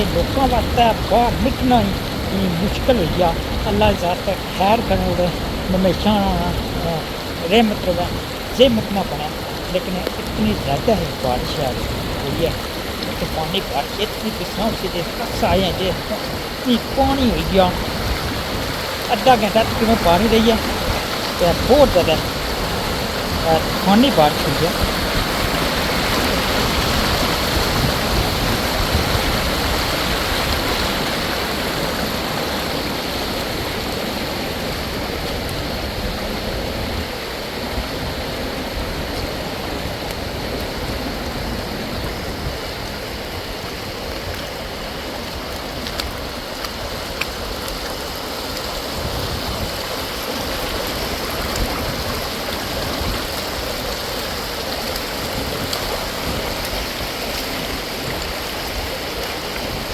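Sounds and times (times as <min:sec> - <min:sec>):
rainwater rushing and pouring: 0:00.0 - 0:59.9.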